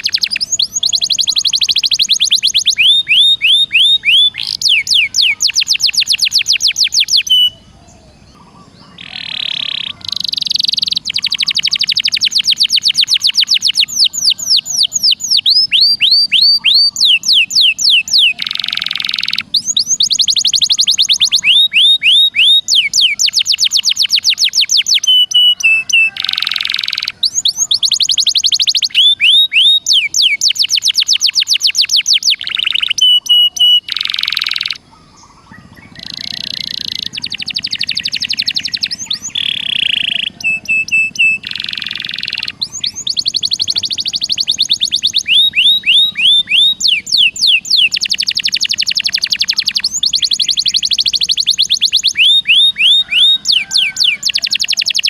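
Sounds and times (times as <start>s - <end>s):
songbird trills: 0.0s - 55.0s.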